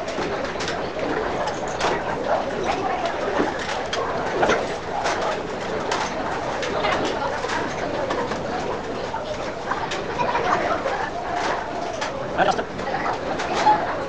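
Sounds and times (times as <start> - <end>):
restaurant din: 0.0 - 14.0.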